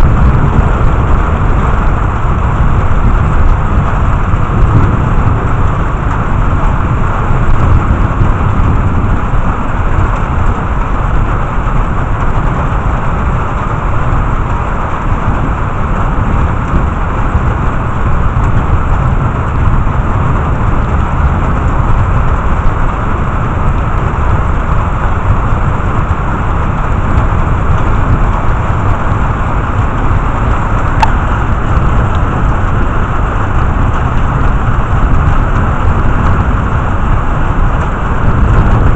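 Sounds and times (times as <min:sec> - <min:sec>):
low thunder rumble: 0:00.0 - 0:38.9
steady rain: 0:00.0 - 0:38.9.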